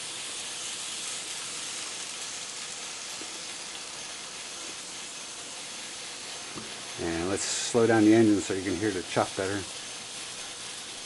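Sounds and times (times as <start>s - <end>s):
steam locomotive chuff hiss: 0.0s - 11.0s.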